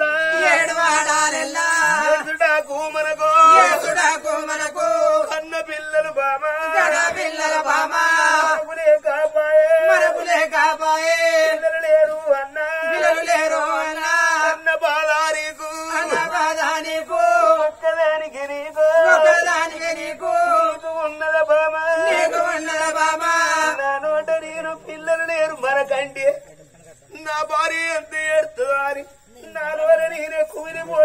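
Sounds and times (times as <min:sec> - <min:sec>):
man singing chant-like song: 0:00.0 - 0:31.0.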